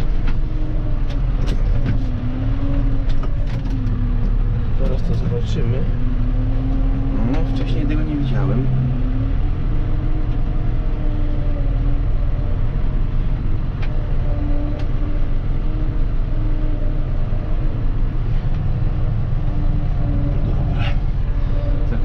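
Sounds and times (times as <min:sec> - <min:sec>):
tractor diesel engine rumble: 0:00.0 - 0:22.0.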